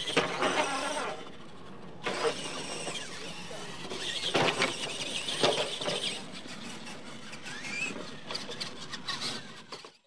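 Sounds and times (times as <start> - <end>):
electric motor whining: 0.0 - 9.9.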